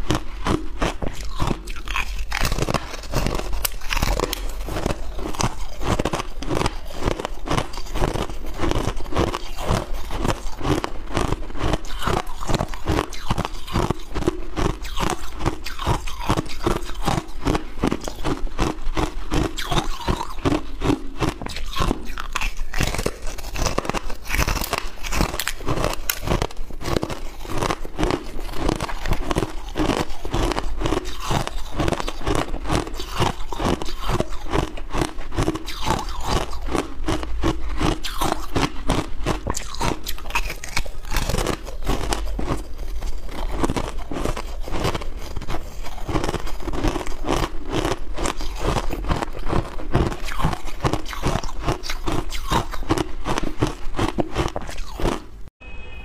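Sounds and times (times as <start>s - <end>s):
ice crunching being chewed: 0.0s - 55.4s.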